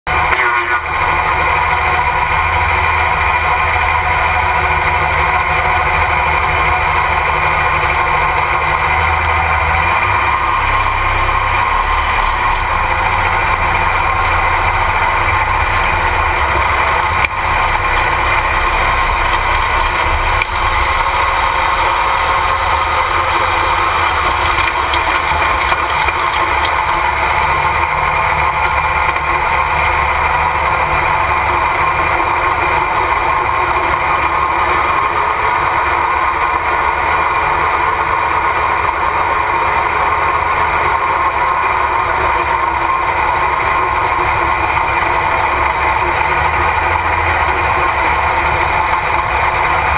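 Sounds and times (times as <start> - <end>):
tractor engine idling loudly: 0.0 - 49.9.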